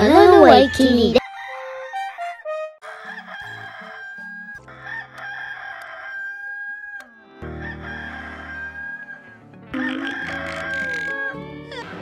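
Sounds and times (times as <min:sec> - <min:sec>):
music: 0:00.0 - 0:05.9, 0:07.0 - 0:12.0
rooster crowing: 0:01.2 - 0:12.0.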